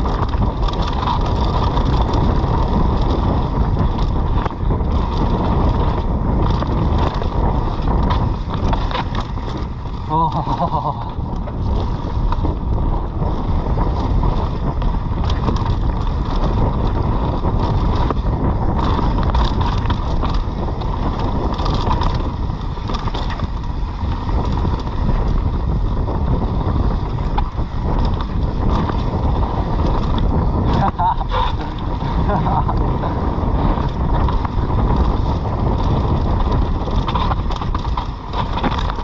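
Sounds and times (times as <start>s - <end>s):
bike clicks and rattles: 0.0s - 39.0s
tyre noise: 0.0s - 39.0s
wind buffeting microphone: 0.0s - 39.0s.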